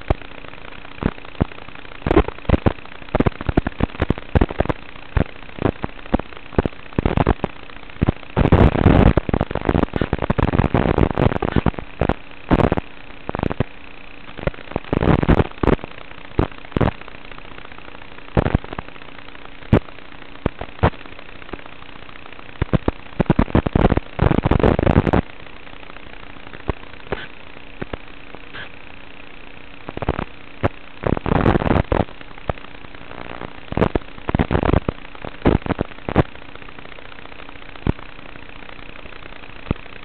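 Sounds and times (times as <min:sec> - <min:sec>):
faint hum: 0:00.0 - 0:40.0
radio static hiss: 0:00.0 - 0:40.0
static crackles and pops: 0:00.0 - 0:40.0.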